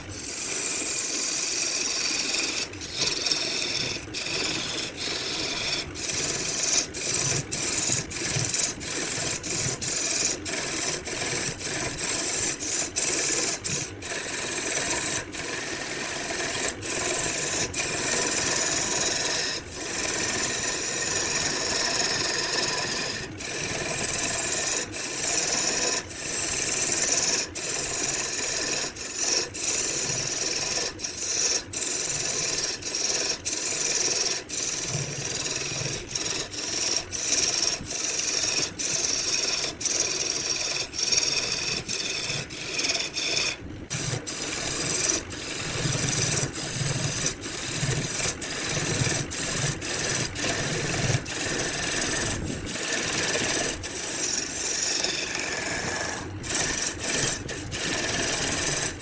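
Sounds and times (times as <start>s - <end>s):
tool rasping against wood: 0.0s - 59.0s.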